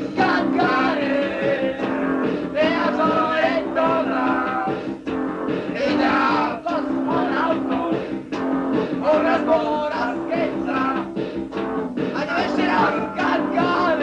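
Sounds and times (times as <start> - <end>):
person singing: 0.0 - 5.0, 5.8 - 11.4, 12.1 - 14.0
electric guitar: 0.0 - 14.0
punk rock band playing: 0.0 - 14.0.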